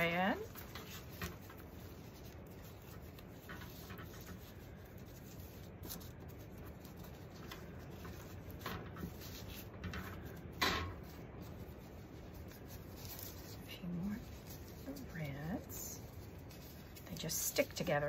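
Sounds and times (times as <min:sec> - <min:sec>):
plastic strips rustling and crinkling: 0:00.0 - 0:18.0.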